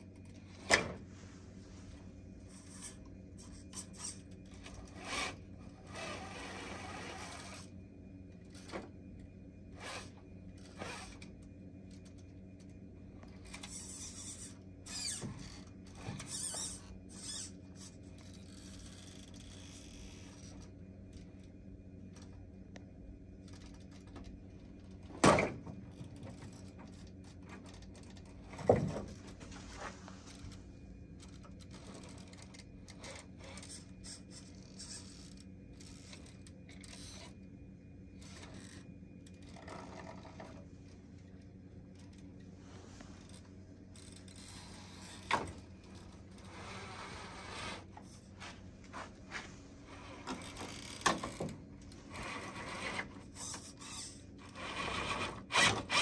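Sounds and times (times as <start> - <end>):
electric motor and gears whirring: 0.0 - 56.0.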